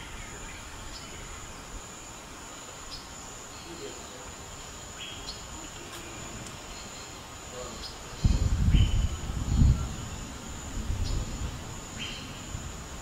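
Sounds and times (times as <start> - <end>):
high-pitched insect drone: 0.0 - 13.0
low natural background: 0.0 - 13.0.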